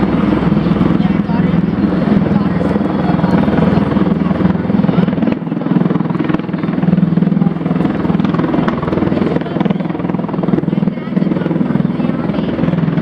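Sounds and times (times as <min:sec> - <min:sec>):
aircraft rotors pulsing: 0:00.0 - 0:13.0.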